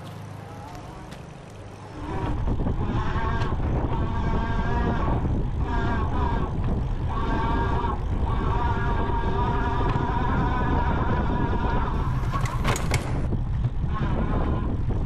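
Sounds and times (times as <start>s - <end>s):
electric motor whining: 0.8s - 15.0s
wind on camera: 1.9s - 15.0s.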